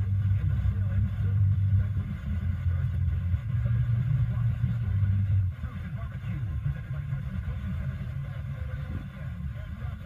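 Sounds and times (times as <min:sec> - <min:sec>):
car radio bass rumble: 0:00.0 - 0:10.0.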